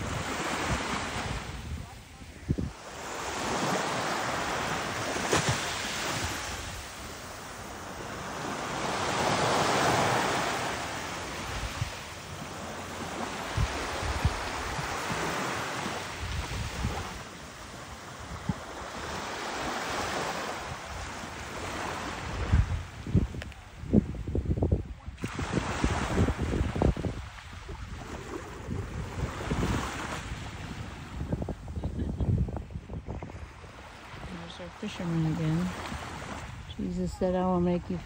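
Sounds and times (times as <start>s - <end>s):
wind rumble on microphone: 0.0s - 5.2s, 9.0s - 17.3s, 18.0s - 38.0s
small waves breaking on beach: 0.0s - 38.0s.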